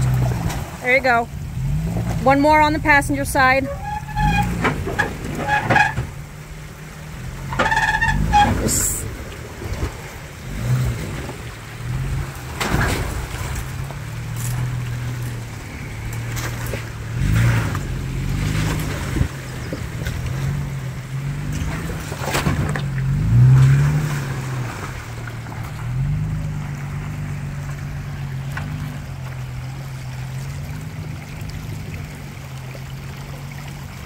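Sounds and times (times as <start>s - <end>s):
engine running at low revs: 0.0s - 34.0s.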